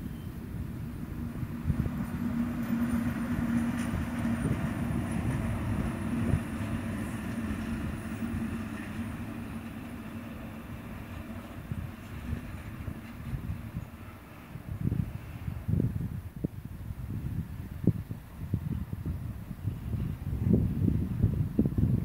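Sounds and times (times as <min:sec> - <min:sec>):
electric locomotive drone: 0:00.0 - 0:21.8
low rumble on rails: 0:00.0 - 0:22.0.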